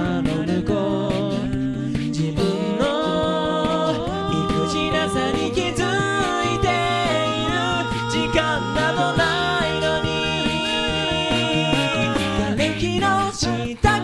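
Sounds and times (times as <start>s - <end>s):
a cappella group singing: 0.0s - 14.0s
vocal percussion beat: 0.0s - 14.0s.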